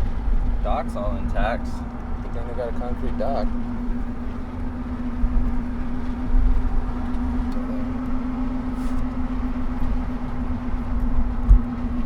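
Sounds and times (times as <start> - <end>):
car road noise rumble: 0.0 - 12.0
constant hum: 0.0 - 12.0.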